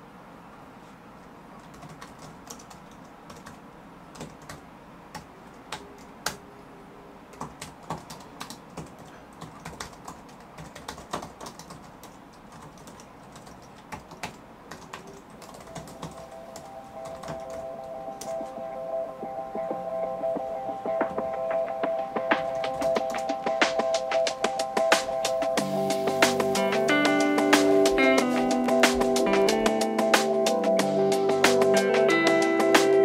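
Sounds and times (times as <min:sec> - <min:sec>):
faint music: 0:00.0 - 0:33.0.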